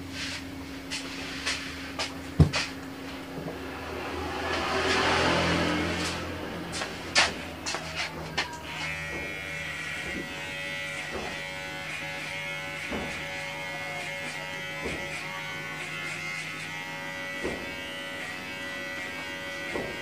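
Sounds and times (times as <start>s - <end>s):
electric hair clipper buzzing: 3.8s - 20.0s.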